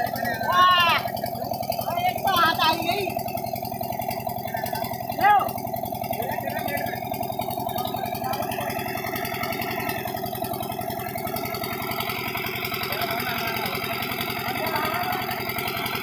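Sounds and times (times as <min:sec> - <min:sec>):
diesel pump engine chugging: 0:00.0 - 0:16.0.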